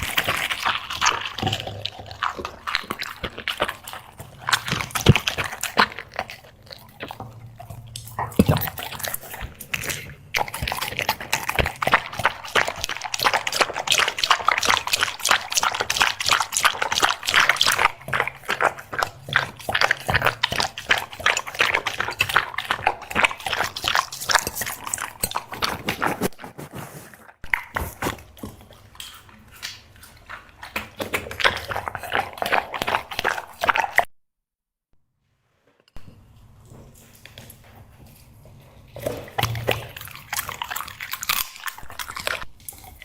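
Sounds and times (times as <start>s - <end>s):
dog chewing food noisily: 0.0s - 34.1s, 36.6s - 43.0s.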